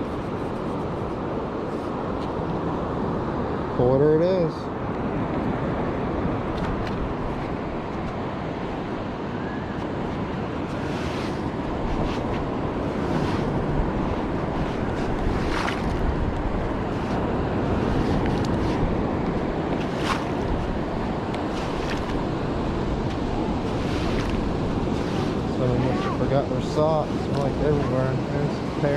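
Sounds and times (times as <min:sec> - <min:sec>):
ocean surf rushing: 0:00.0 - 0:28.9
wind buffeting microphone: 0:00.0 - 0:28.9.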